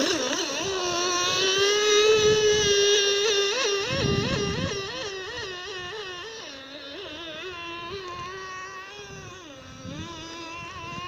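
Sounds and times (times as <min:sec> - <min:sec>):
model boat engine buzzing whine: 0:00.0 - 0:11.0.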